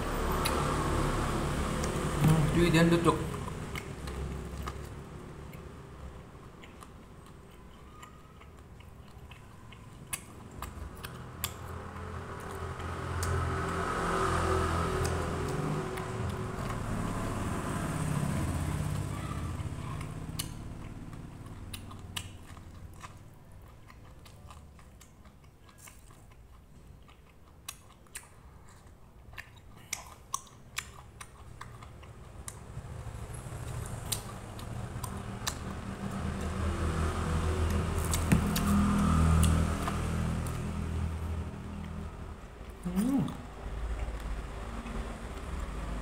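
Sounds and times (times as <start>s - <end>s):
chewing corn cob crunches: 1.8s - 17.8s, 18.6s - 41.1s, 41.7s - 46.0s.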